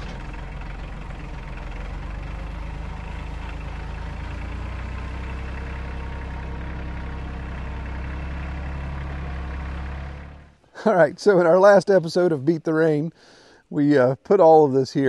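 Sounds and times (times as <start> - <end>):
diesel tractor engine running: 0.0 - 12.4.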